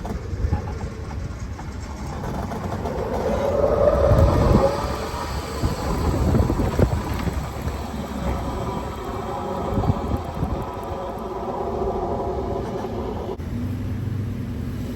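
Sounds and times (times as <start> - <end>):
electric golf cart rumble: 0.0 - 13.4
wind buffeting microphone: 0.0 - 13.4.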